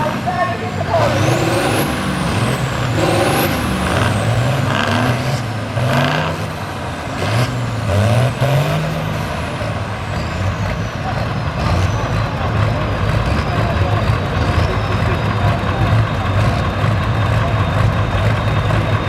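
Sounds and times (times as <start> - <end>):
diesel engine revving hard: 0.0 - 19.0.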